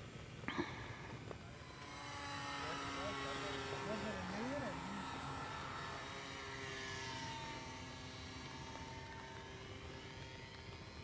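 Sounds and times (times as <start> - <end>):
model plane motor whine: 0.0 - 11.0.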